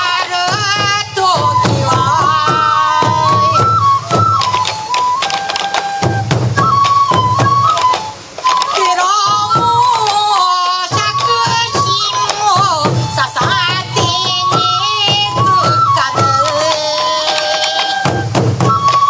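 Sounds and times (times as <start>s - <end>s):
repeated drum strokes: 0.0s - 19.0s
high held melody: 1.2s - 19.0s.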